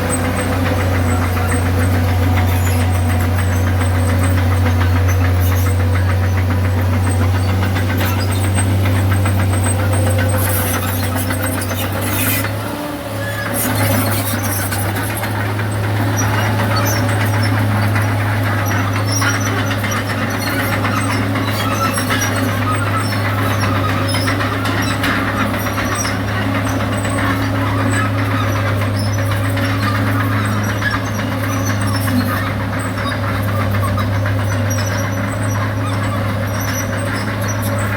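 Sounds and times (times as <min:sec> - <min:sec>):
bulldozer diesel engine running: 0:00.0 - 0:37.9
steel tracks squealing and clanking: 0:00.0 - 0:37.9.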